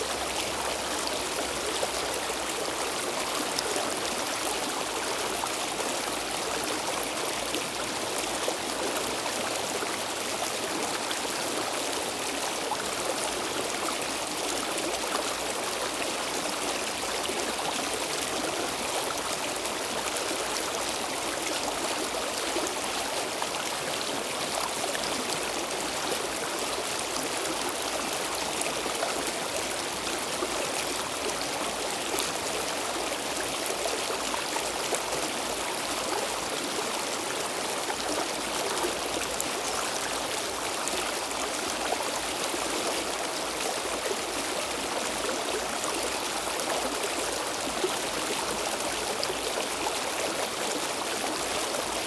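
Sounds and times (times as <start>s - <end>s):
stream flowing over rocks: 0.0s - 52.0s.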